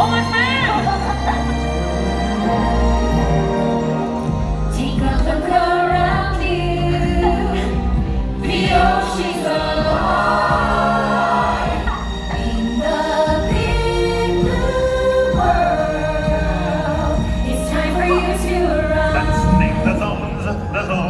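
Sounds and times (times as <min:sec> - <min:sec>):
loud accompanying music: 0:00.0 - 0:21.0
group singing a show tune: 0:00.1 - 0:21.0.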